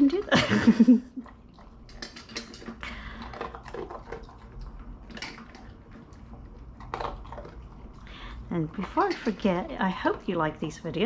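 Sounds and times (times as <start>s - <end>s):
dog crunching kibble: 1.2s - 10.3s.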